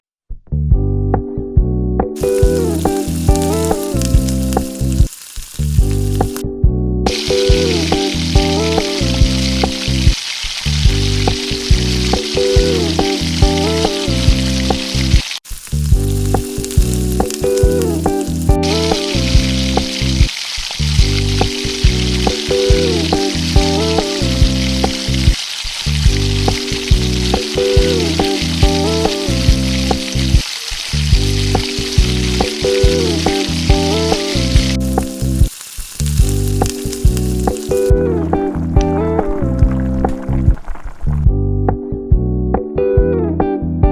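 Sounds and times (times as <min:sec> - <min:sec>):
background music with a beat: 0:00.7 - 0:05.1, 0:05.8 - 0:10.2, 0:10.8 - 0:15.2, 0:15.9 - 0:20.3, 0:21.0 - 0:25.4, 0:26.0 - 0:30.4, 0:31.1 - 0:35.5, 0:36.2 - 0:40.6
food sizzling in a pan: 0:02.2 - 0:06.4, 0:07.1 - 0:41.2.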